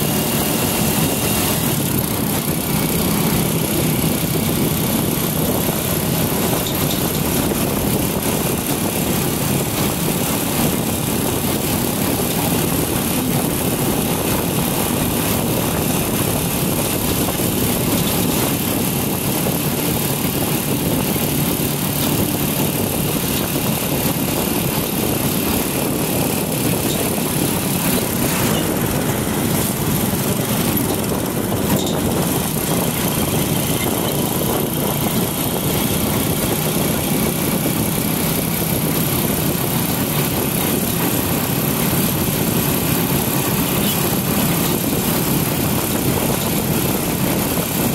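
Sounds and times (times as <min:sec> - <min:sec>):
motorcycle engine running: 0:00.0 - 0:47.9
road and wind noise: 0:00.0 - 0:47.9.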